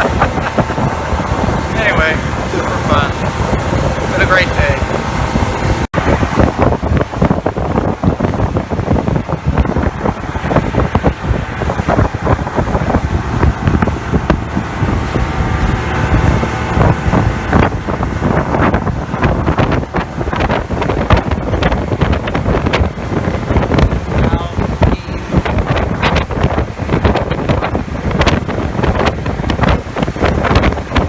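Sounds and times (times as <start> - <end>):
motorboat engine drone: 0.0 - 31.0
wind buffeting microphone: 0.0 - 31.0.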